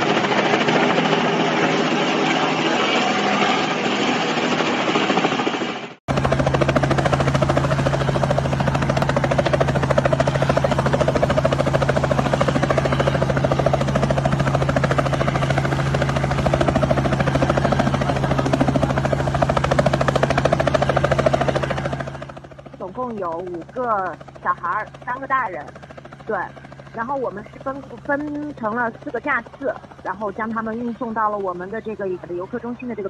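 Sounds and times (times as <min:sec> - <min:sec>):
helicopter engine hum: 0:00.0 - 0:33.0
helicopter rotor chop: 0:00.0 - 0:33.0.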